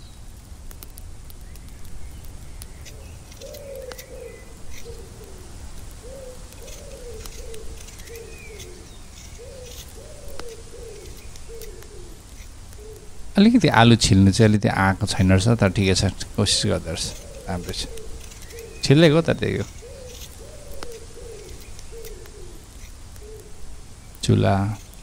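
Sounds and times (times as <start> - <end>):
small bird chirping: 1.3 - 13.2, 15.6 - 25.0
doves cooing: 1.6 - 25.0.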